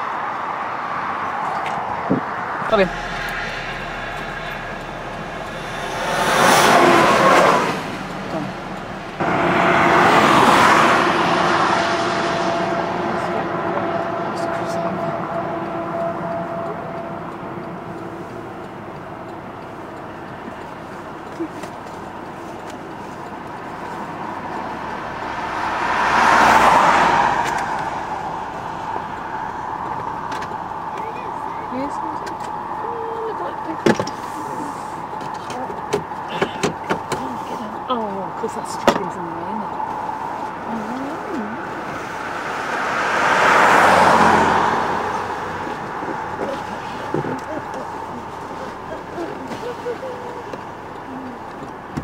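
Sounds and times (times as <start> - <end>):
vehicle passing on road: 0.0 - 52.0.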